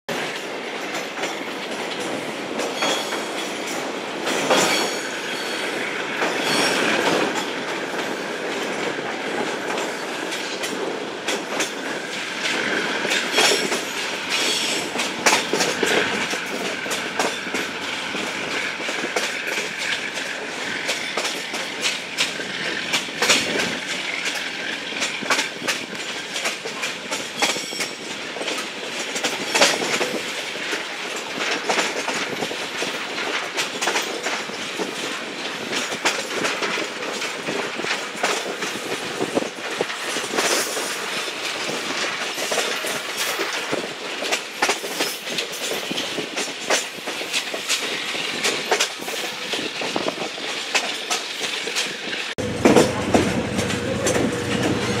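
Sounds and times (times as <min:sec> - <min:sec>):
train wheels clattering: 0:00.1 - 0:55.0.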